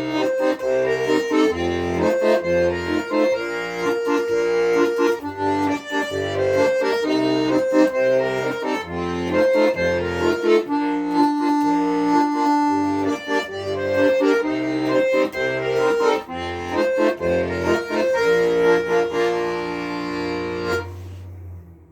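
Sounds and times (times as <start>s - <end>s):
accordion playing: 0.0s - 21.2s.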